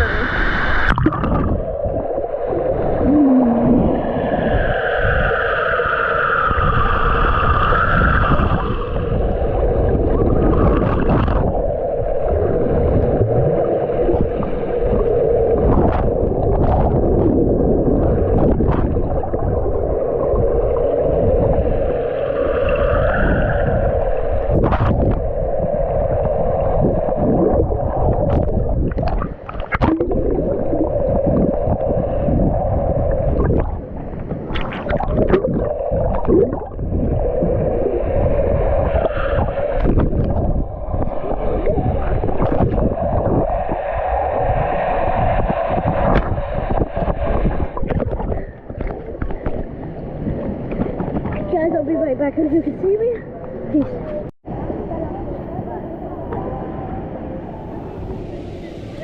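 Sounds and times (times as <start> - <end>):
underwater gurgling and rushing water: 0.0 - 59.0.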